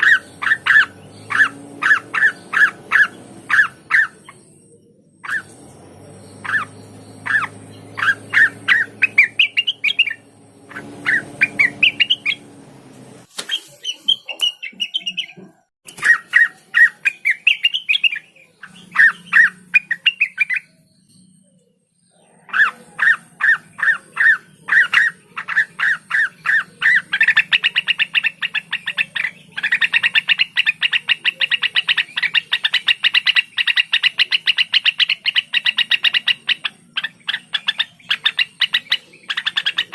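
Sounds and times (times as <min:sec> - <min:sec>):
songbird chirps and trill: 0:00.0 - 0:39.9.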